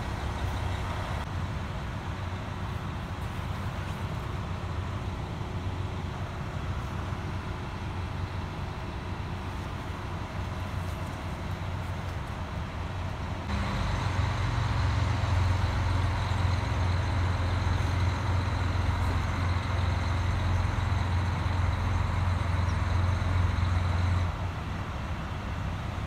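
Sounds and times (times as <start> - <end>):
diesel train engine drone: 0.0 - 26.0.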